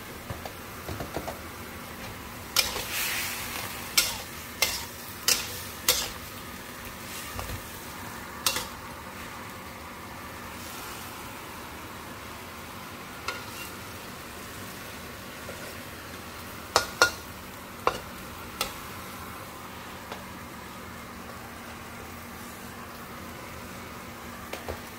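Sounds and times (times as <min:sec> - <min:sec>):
food sizzling in pan: 0:00.0 - 0:24.9.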